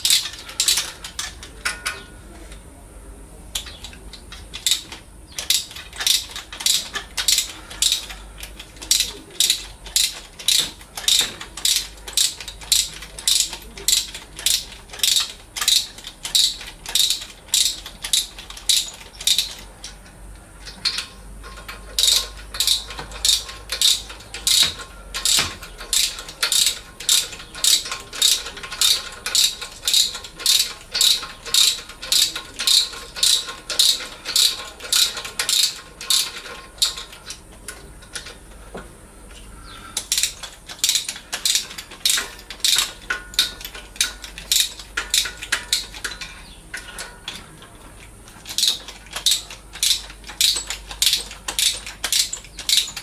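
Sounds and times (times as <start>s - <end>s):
socket ratchet clicking: 0.0s - 1.8s, 3.6s - 38.4s, 40.0s - 53.0s.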